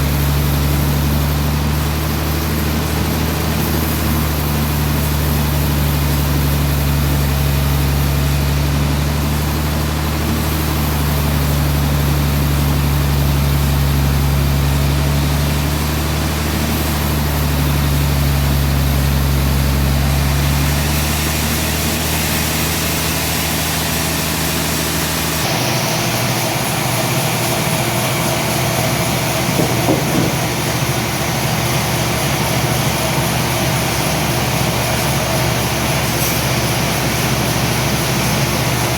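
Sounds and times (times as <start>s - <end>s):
noisy high machine sound: 0.0s - 38.9s
sawmill machinery humming: 0.0s - 38.9s.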